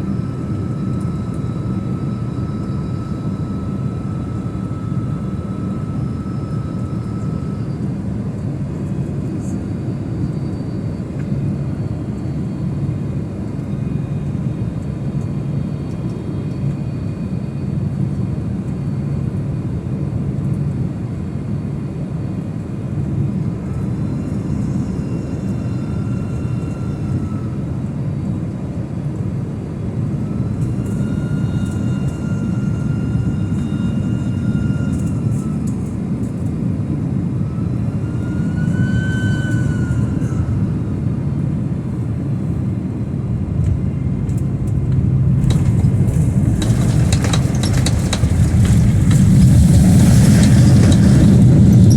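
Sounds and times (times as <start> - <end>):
airliner cabin rumble: 0.0 - 51.9
jet engine whine: 0.0 - 51.9.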